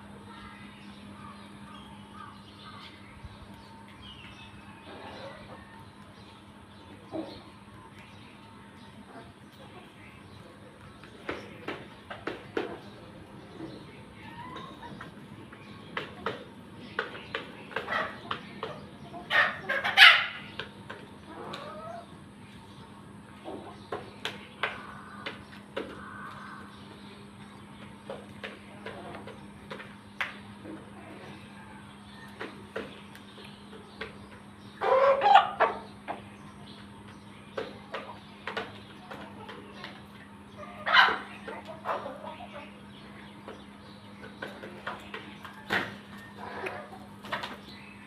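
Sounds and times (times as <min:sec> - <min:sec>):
chickens calling harshly: 0:00.0 - 0:07.8, 0:08.6 - 0:48.0
chickens clucking: 0:00.0 - 0:48.0.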